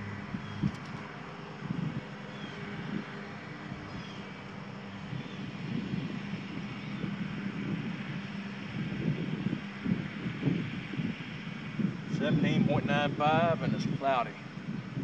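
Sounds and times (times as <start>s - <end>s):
distant engine drone: 0.0s - 15.0s
steady low hum: 0.0s - 15.0s
wind buffeting microphone: 0.0s - 15.0s.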